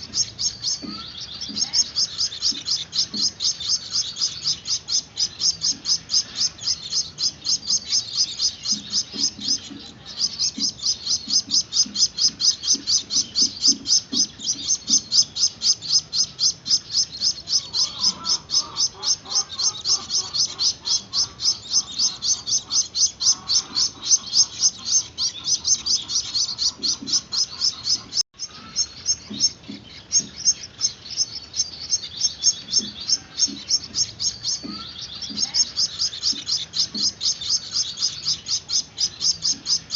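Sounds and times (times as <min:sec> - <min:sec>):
finch chicks begging chirps: 0:00.0 - 0:39.9.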